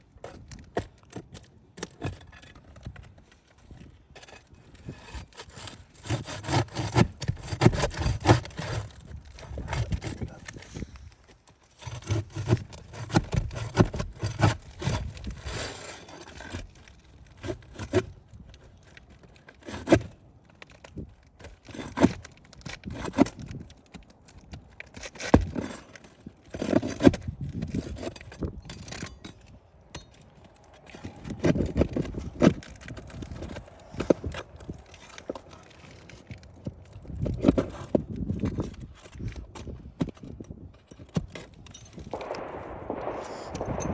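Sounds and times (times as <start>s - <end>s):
roof shingles scraping and crackling: 0.0s - 42.4s.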